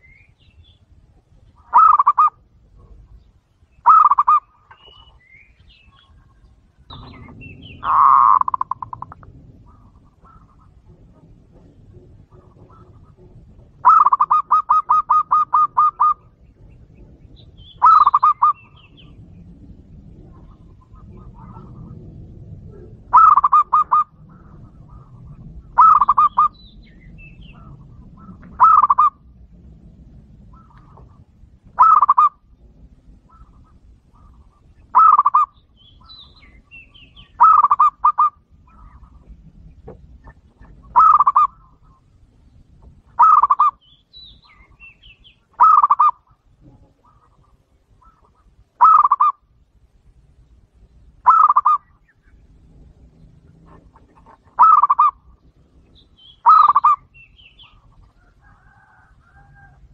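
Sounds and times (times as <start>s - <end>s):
dove cooing: 1.3s - 3.2s, 3.8s - 5.2s, 5.9s - 42.2s, 42.8s - 43.8s, 44.4s - 49.5s, 51.2s - 59.9s.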